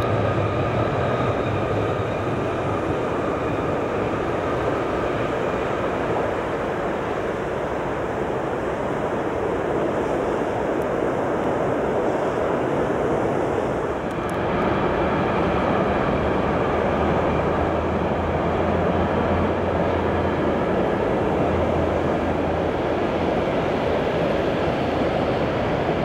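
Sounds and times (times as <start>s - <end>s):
train wheels rumbling on bridge: 0.0s - 26.0s.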